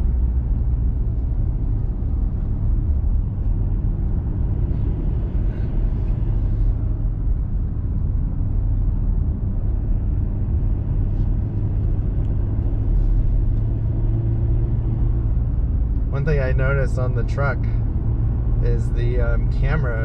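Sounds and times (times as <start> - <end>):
truck engine and tyre rumble: 0.0 - 20.0.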